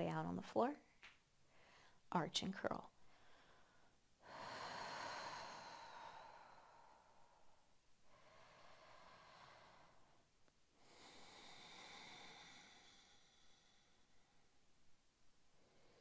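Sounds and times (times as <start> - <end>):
woman breathing slowly: 1.4 - 2.1, 3.0 - 16.0.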